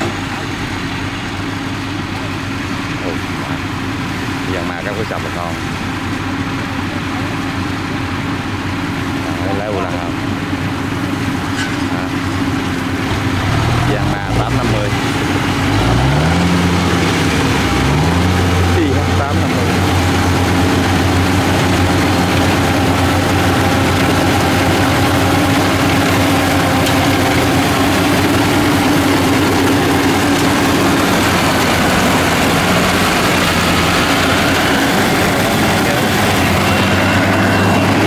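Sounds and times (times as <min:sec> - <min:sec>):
combine harvester engine running: 0:00.0 - 0:38.0.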